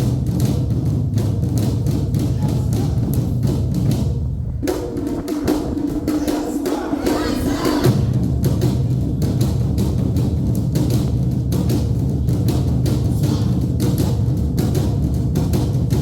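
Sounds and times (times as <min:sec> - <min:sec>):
fast drums and percussion: 0:00.0 - 0:16.0.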